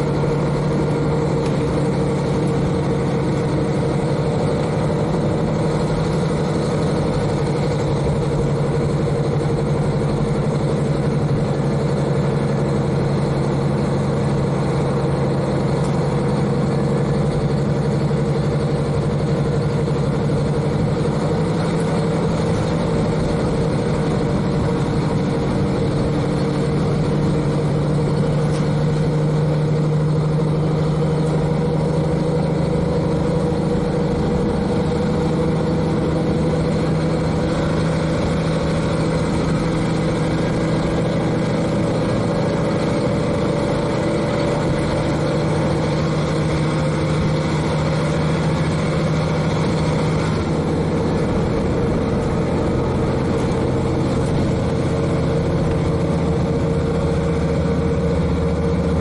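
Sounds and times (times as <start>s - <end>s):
diesel engine low drone: 0.0s - 59.0s.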